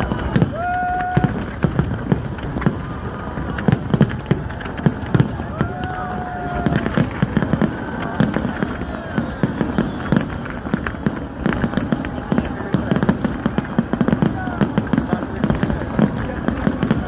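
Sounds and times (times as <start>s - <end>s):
faint voices: 0.0s - 17.0s
fireworks bangs and crackles: 0.0s - 17.0s.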